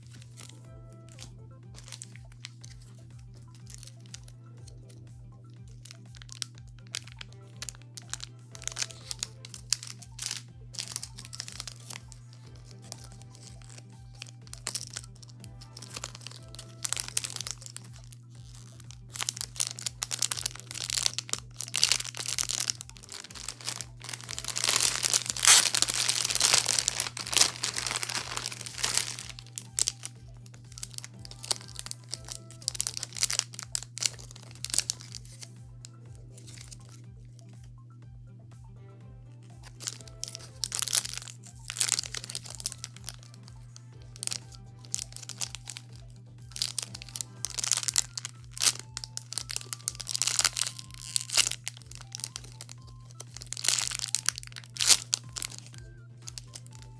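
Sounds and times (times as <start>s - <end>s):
plastic bags crinkling: 0.0s - 5.0s, 5.6s - 35.6s, 36.4s - 37.0s, 39.6s - 56.9s
background music: 0.0s - 56.9s
steady low hum: 0.0s - 56.9s.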